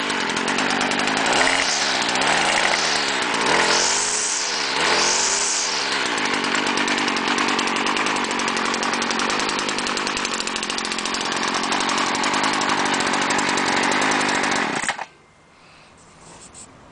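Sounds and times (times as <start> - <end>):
strimmer engine idling: 0.0 - 15.2.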